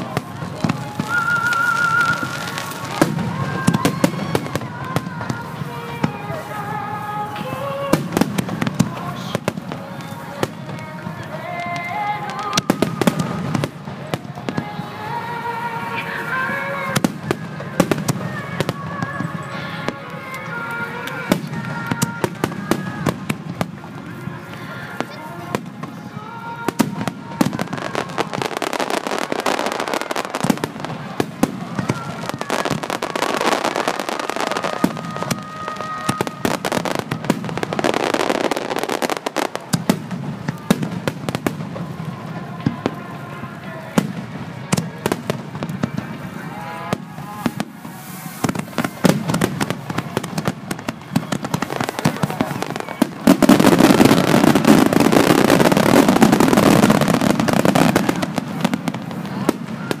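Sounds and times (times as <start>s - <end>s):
firework bangs: 0.0s - 60.0s
firework crackle: 0.0s - 60.0s.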